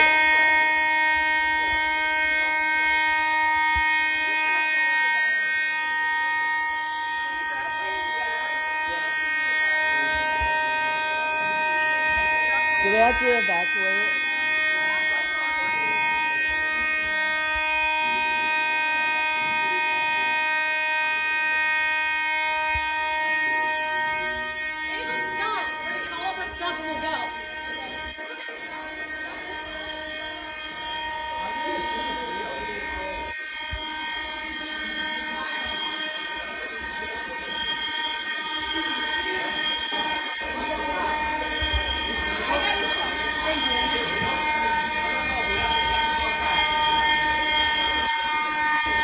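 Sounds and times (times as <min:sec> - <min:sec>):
fire alarm horn tone: 0:00.0 - 0:49.0.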